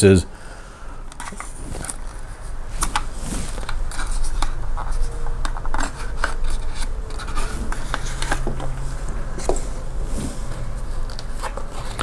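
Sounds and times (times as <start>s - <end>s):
plastic scraping against card: 1.2s - 12.0s.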